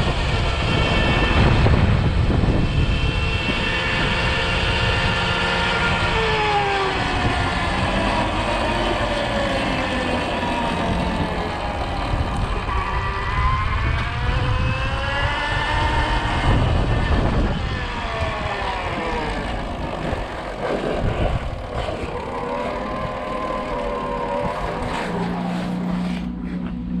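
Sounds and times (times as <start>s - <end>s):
wind rumble on microphone: 0.0s - 25.5s
electric motorcycle motor whine: 0.0s - 27.0s.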